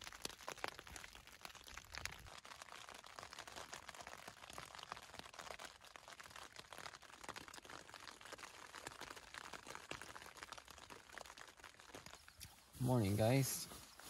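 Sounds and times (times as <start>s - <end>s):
light rain pattering on tent: 0.0s - 14.0s.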